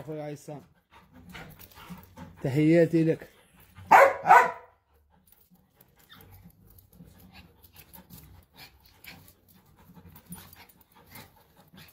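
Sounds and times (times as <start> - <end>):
dogs scuffling on concrete: 0.8 - 11.9.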